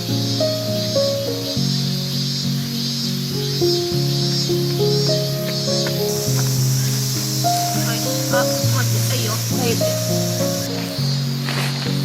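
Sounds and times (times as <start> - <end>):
instrumental music held notes: 0.0 - 12.0.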